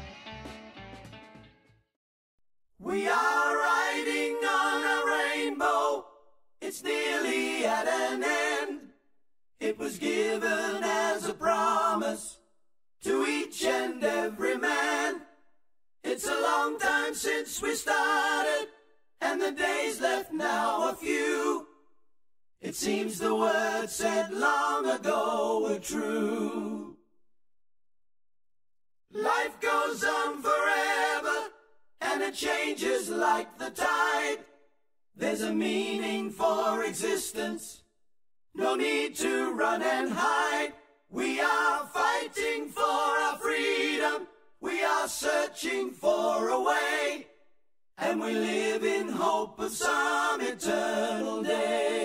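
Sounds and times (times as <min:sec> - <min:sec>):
voices singing a cappella: 0:02.8 - 0:09.0, 0:09.6 - 0:21.9, 0:22.6 - 0:27.1, 0:29.1 - 0:37.9, 0:38.5 - 0:52.0.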